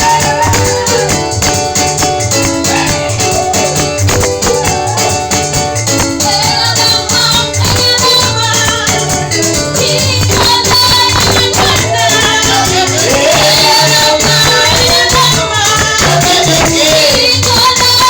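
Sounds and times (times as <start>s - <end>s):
bass line: 0.0s - 18.0s
guitar: 0.0s - 18.0s
shaker rhythm: 0.0s - 18.0s.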